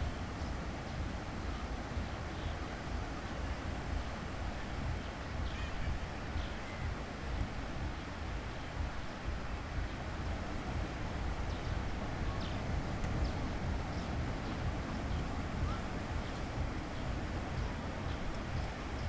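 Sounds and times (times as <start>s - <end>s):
sea waves washing: 0.0s - 19.0s
wind rumbling on microphone: 0.0s - 19.0s.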